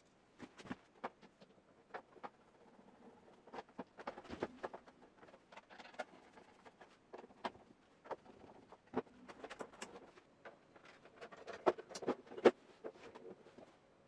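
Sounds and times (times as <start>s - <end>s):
plastic parts clicking and knocking: 0.5s - 13.7s.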